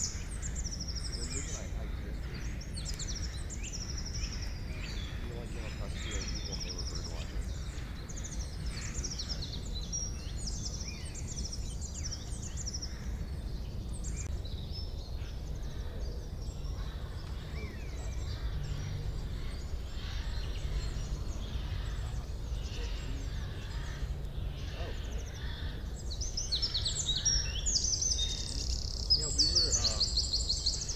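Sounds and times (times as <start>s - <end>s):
low ambient rumble: 0.0s - 30.9s
songbirds chirping and trilling: 0.0s - 30.9s.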